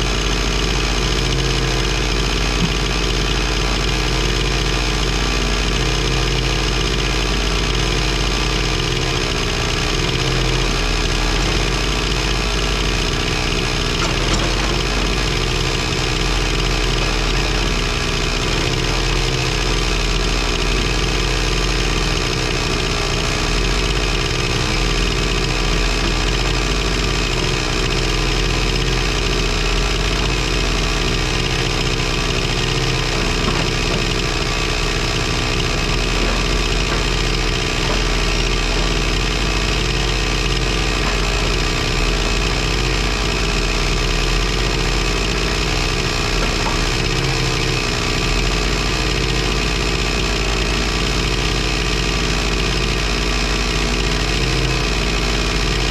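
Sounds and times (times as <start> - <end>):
excavator engine running: 0.0 - 55.9.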